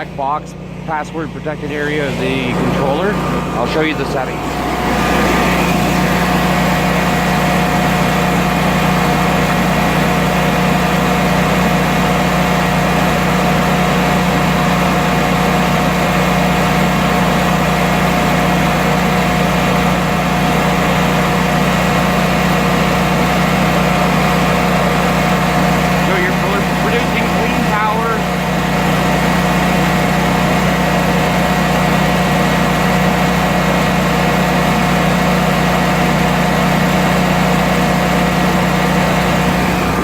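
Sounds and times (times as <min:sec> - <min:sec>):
generator engine humming: 0:00.0 - 0:40.0.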